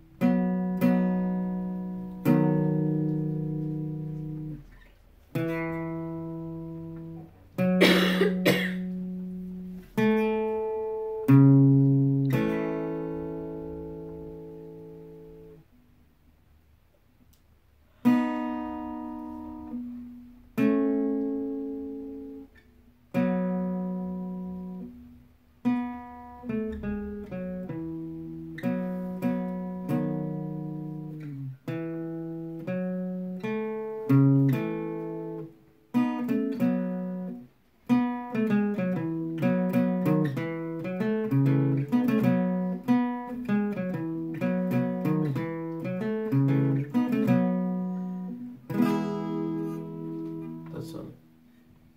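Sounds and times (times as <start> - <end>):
guitar strumming chords: 0.0 - 15.8, 17.9 - 51.9.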